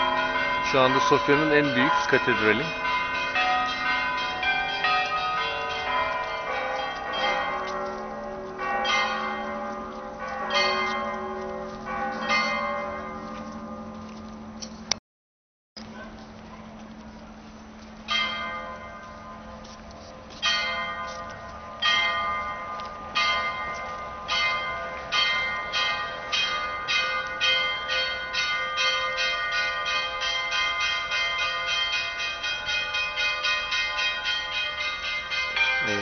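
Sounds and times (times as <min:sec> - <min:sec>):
church bells ringing: 0:00.0 - 0:14.6, 0:18.0 - 0:36.0.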